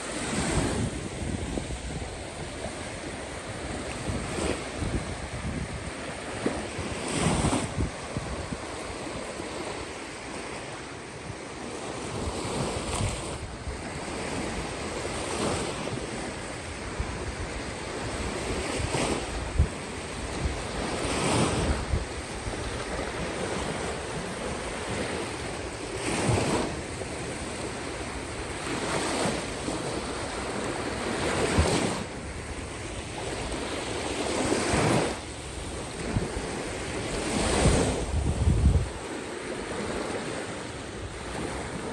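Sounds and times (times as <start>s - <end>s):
waves breaking on shore: 0.0s - 41.9s
wind on microphone: 0.0s - 41.9s.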